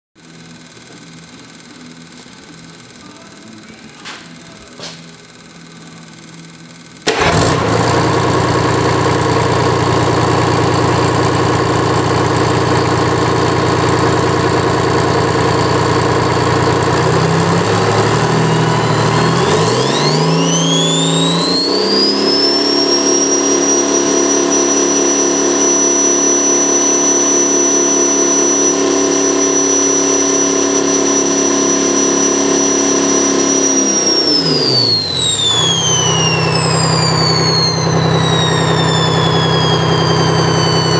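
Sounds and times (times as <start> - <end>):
diesel engine starting and idling: 6.9 - 40.9
engine revving high with whine: 7.1 - 40.9.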